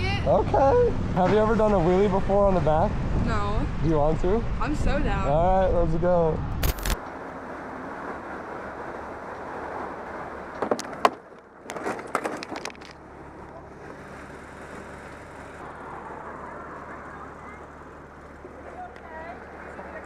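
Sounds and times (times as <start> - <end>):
motorcycle and traffic rush: 0.0 - 20.0.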